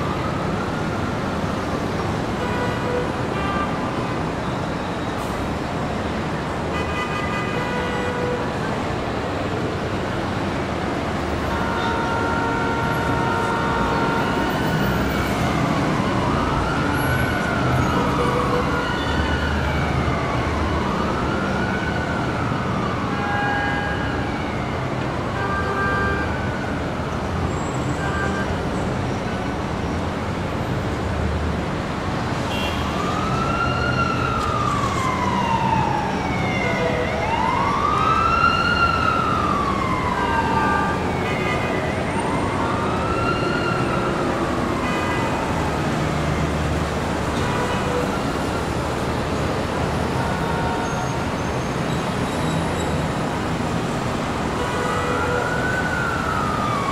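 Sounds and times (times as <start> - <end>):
emergency vehicle siren wailing: 0.0 - 6.8, 7.6 - 31.0, 31.6 - 56.9
city traffic noise: 0.0 - 56.9.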